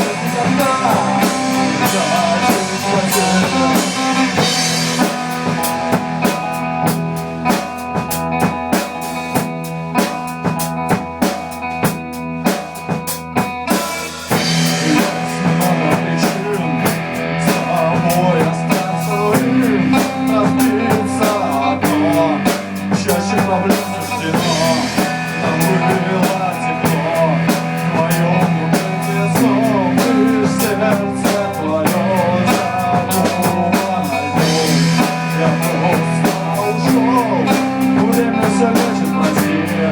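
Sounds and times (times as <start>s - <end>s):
rock music with drums and guitar: 0.0s - 39.9s.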